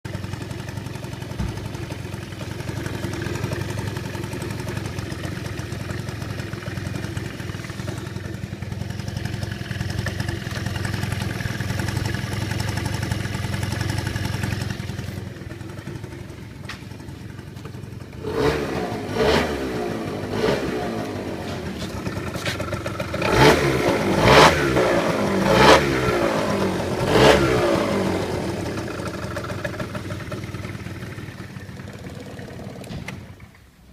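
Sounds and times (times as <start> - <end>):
engine idling and revving: 0.0 - 33.7.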